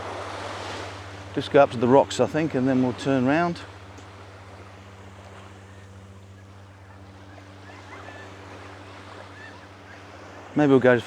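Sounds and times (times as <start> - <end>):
low hum: 0.0 - 11.0
small waves: 0.0 - 11.0
wind: 0.0 - 11.0.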